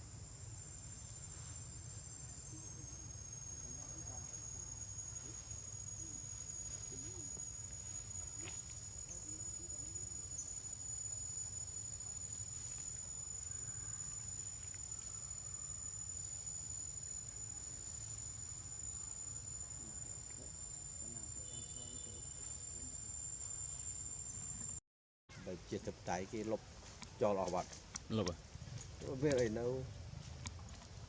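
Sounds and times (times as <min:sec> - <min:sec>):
insects droning: 0:00.0 - 0:24.8, 0:25.4 - 0:31.0.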